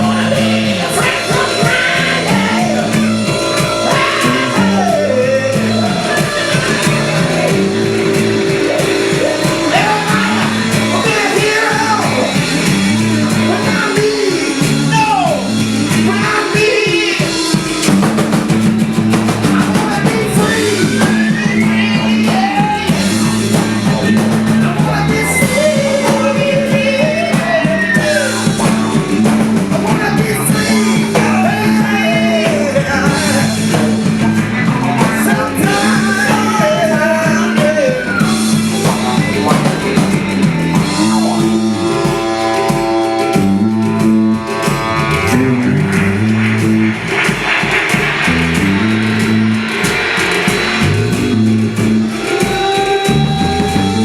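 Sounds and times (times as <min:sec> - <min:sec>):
person singing: 0:00.0 - 0:45.9, 0:51.9 - 0:54.0
drum kit: 0:00.0 - 0:54.0
electric guitar: 0:00.0 - 0:54.0
walking bass line: 0:00.0 - 0:54.0.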